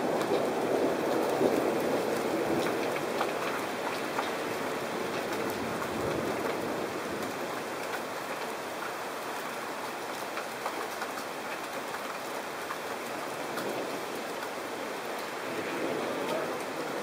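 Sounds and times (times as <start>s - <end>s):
heavy rain on pavement: 0.0s - 17.0s.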